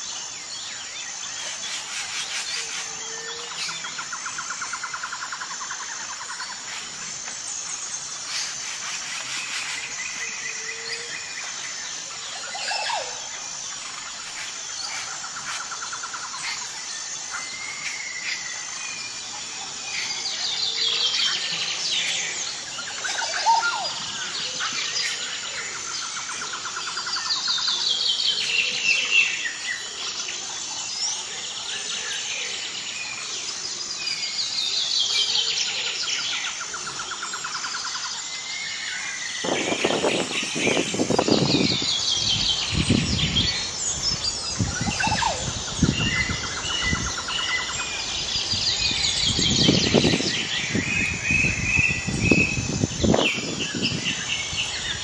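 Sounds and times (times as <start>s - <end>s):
birds singing and calling: 0.0s - 55.0s.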